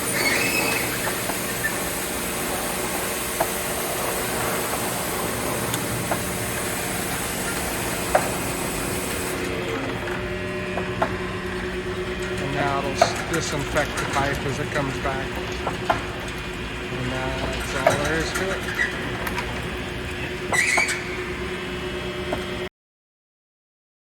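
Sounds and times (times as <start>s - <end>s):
pump motor hum: 0.0s - 22.7s.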